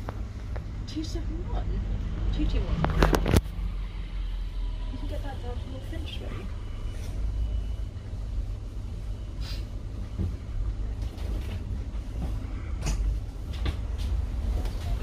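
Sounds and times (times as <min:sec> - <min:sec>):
bus engine rumble: 0:00.0 - 0:15.0.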